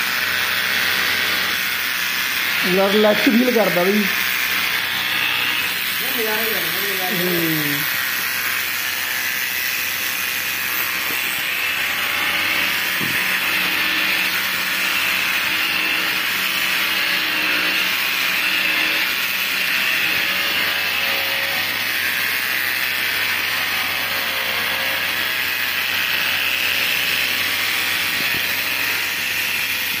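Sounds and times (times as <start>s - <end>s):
electric hair clipper buzzing: 0.0s - 30.0s.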